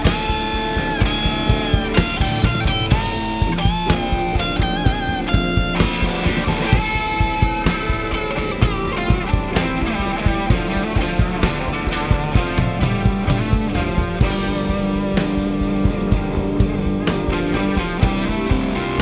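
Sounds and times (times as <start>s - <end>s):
blues rock band playing: 0.0s - 19.0s
electric guitar lead: 0.0s - 19.0s.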